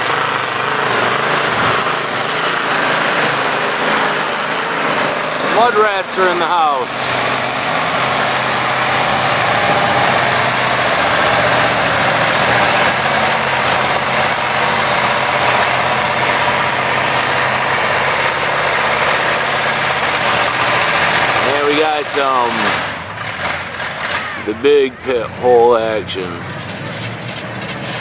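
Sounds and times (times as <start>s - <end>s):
truck engine clattering: 0.0s - 28.0s.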